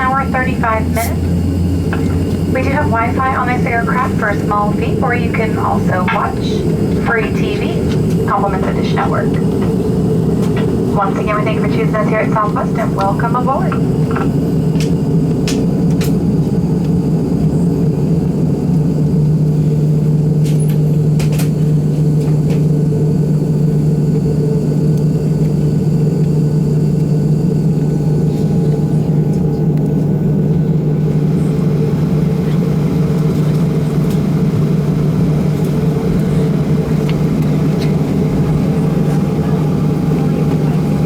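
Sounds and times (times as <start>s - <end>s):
low machinery drone: 0.0s - 41.0s.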